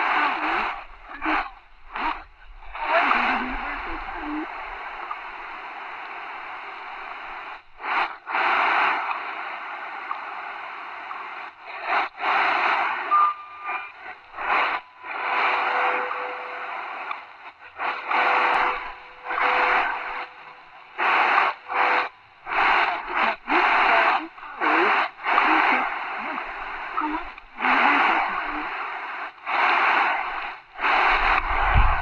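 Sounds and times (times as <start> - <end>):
faint steady radio tone: 0.0 - 32.0
shortwave radio hiss and static: 0.0 - 32.0.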